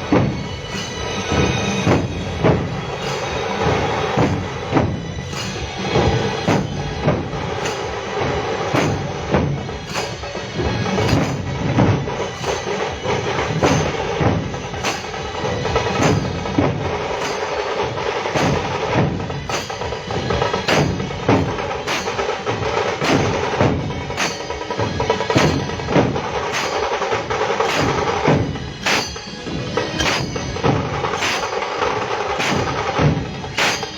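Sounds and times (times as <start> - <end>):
drum-led percussion music: 0.0 - 33.9.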